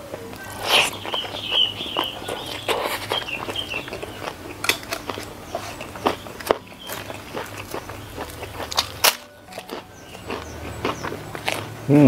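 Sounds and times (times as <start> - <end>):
close chewing with wet mouth clicks: 0.1 - 11.8.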